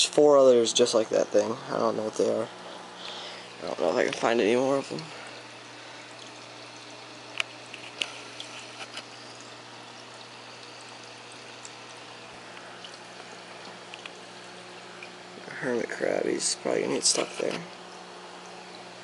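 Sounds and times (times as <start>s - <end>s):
pump hum: 0.0s - 19.0s
water trickling from filter: 0.2s - 19.0s.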